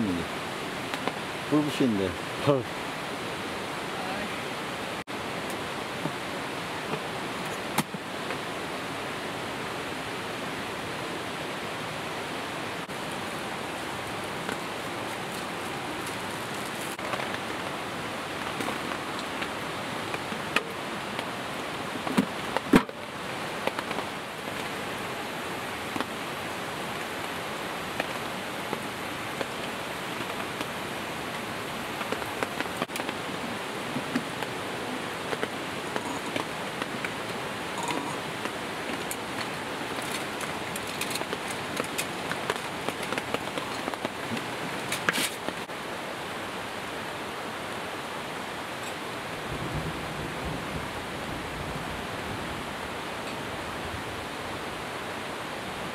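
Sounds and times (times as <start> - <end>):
stream rushing: 0.0 - 55.9.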